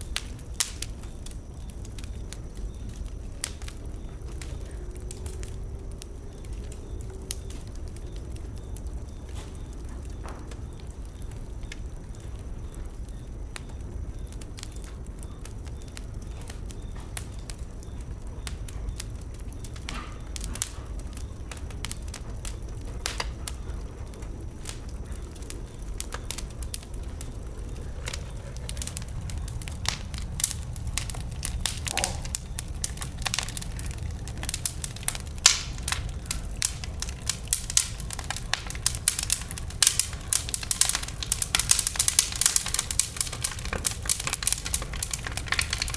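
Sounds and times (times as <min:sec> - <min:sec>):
bonfire crackling and popping: 0:00.0 - 0:45.9
steady low rumble: 0:00.0 - 0:45.9.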